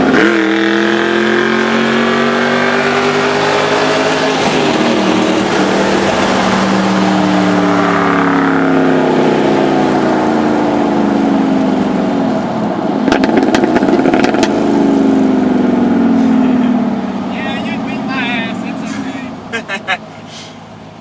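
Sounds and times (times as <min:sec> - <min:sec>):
loud car engine running: 0:00.0 - 0:21.0.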